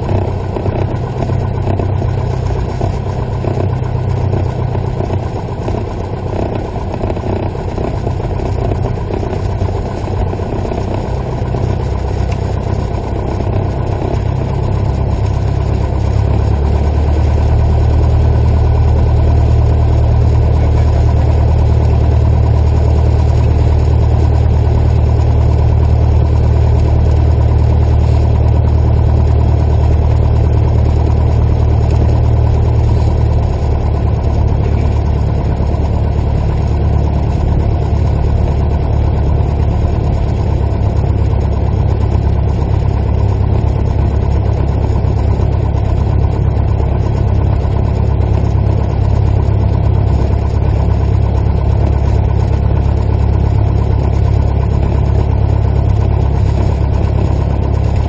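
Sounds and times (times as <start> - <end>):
light airplane engine drone: 0.0 - 58.0.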